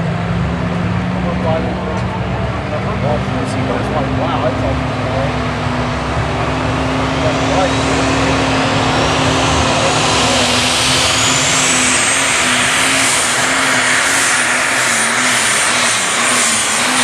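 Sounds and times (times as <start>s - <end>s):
diesel tractor engine under load: 0.0s - 17.0s
turbocharger whine: 0.0s - 17.0s.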